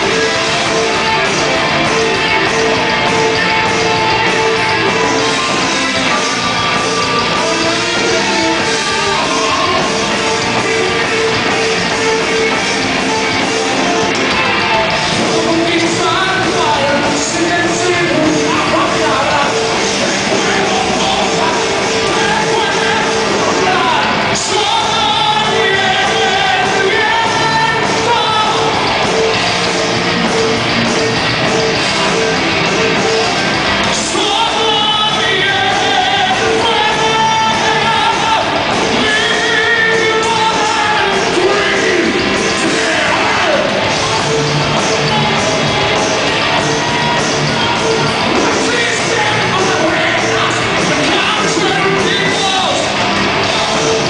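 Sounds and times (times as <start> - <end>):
heavy metal band playing: 0.0 - 54.0
lead vocals singing: 0.0 - 54.0.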